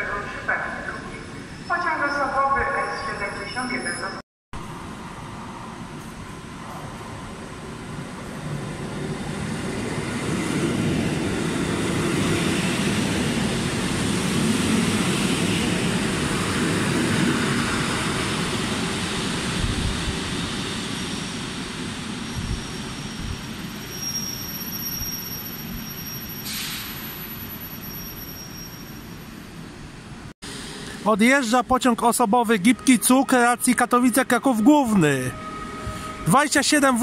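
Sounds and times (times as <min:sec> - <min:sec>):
train rushing through station: 0:00.0 - 0:37.0.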